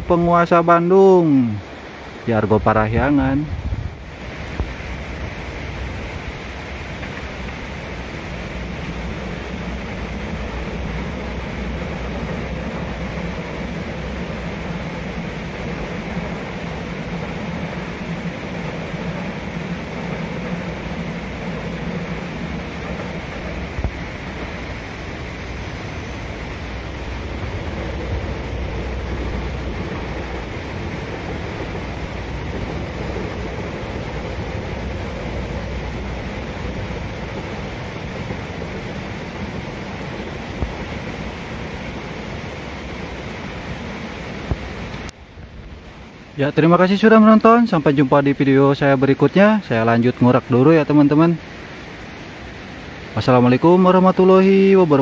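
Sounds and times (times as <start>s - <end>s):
train wheels rumbling on rails: 0.0s - 55.0s
low engine drone: 2.8s - 51.1s.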